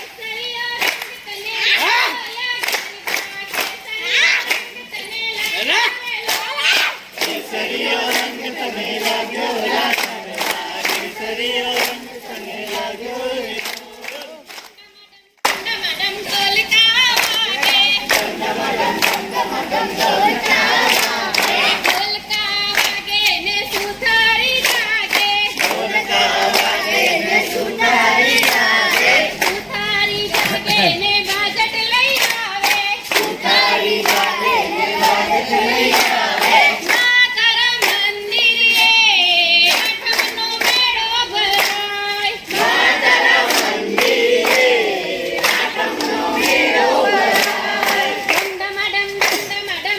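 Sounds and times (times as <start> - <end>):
hand claps: 0.0 - 14.8, 15.4 - 49.9
group singing: 0.0 - 49.9.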